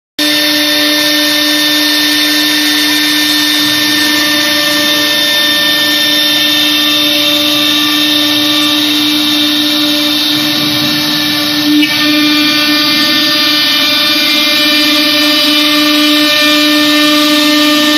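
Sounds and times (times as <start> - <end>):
wood router spindle whine: 0.2 - 17.9.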